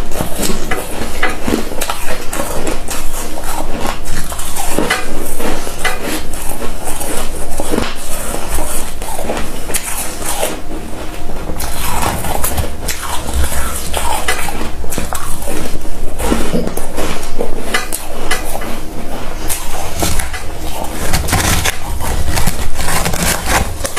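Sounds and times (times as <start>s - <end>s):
chewing crunchy ice: 0.0s - 23.9s.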